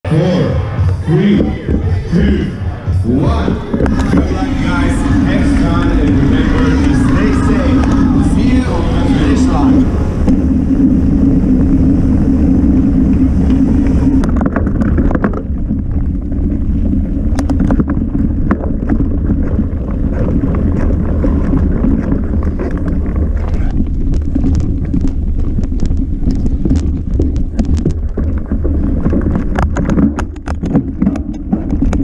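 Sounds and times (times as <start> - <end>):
wind buffeting microphone: 1.4 - 32.0
bike clicking and rattling: 3.2 - 32.0.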